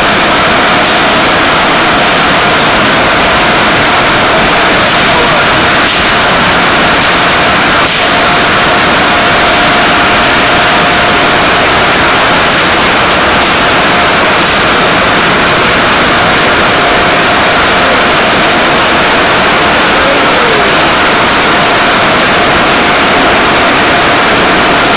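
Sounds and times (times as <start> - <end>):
air dryer blowers rushing: 0.0 - 24.9
faint steady whine: 0.0 - 24.9.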